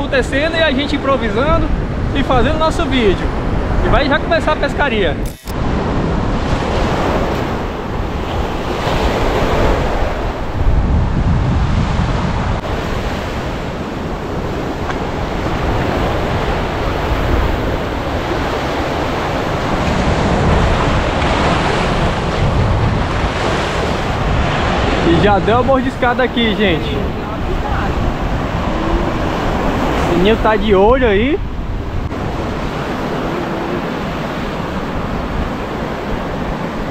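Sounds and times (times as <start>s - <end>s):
wind buffeting microphone: 0.0s - 36.9s
surf breaking on beach: 5.0s - 36.9s.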